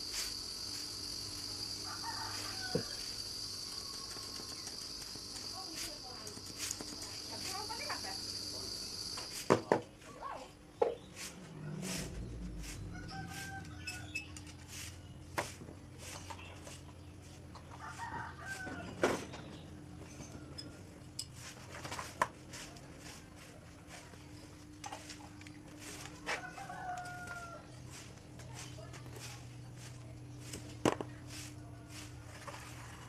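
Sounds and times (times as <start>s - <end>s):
steady low hum: 0.0s - 9.5s, 10.5s - 33.0s.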